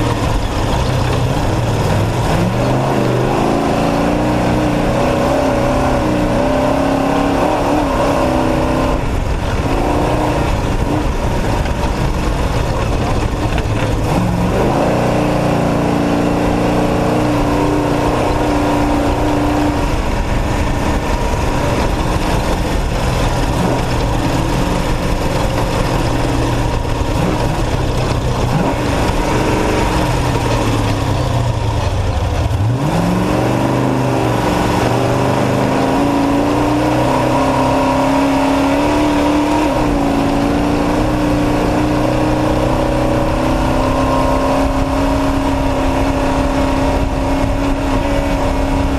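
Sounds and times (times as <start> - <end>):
truck engine running hard: 0.0 - 48.9.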